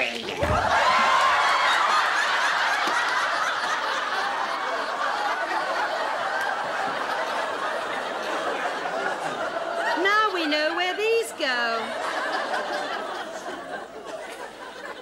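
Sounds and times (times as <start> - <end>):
studio audience laughing: 0.4 - 15.0.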